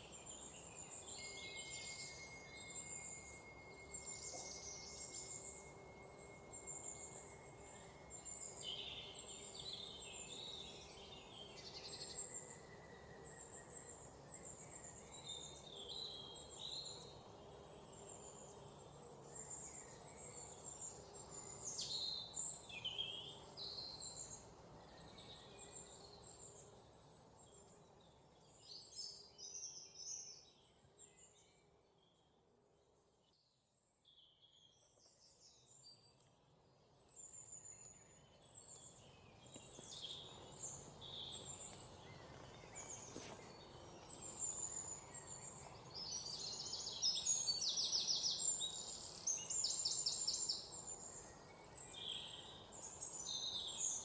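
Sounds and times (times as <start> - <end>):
songbirds chirping and singing: 0.0 - 32.2, 36.9 - 54.0
low background hiss: 0.0 - 54.0.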